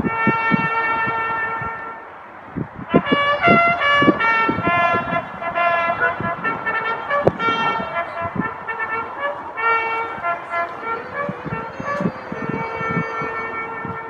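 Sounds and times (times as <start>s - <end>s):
brass instrument long notes: 0.0s - 2.1s, 2.8s - 14.0s.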